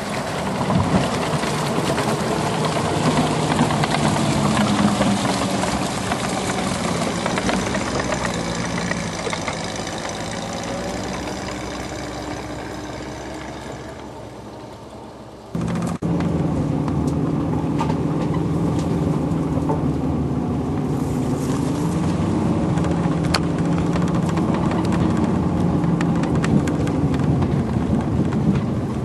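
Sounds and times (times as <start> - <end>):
engine droning: 0.0 - 29.0
track clatter: 0.0 - 29.0.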